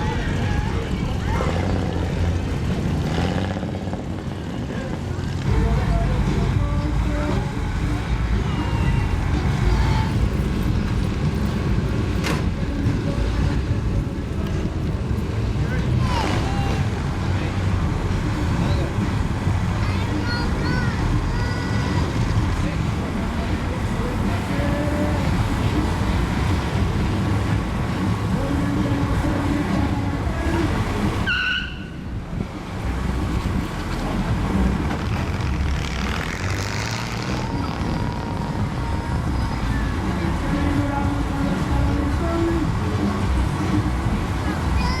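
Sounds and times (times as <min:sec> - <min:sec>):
car engines rumbling by: 0:00.0 - 0:45.0.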